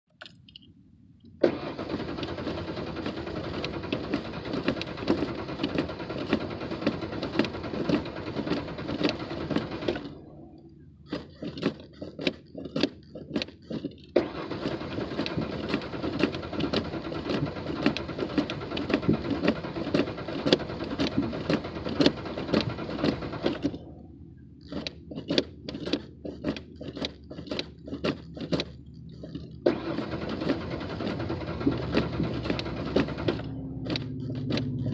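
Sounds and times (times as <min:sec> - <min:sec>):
car engine cranking: 0:00.1 - 0:34.9.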